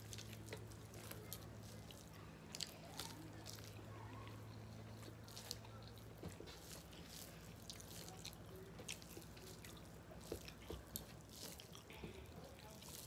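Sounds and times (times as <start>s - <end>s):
fingers mixing rice on metal plates: 0.0s - 13.0s
low steady hum: 0.0s - 13.0s
mouths chewing and smacking: 0.0s - 13.0s.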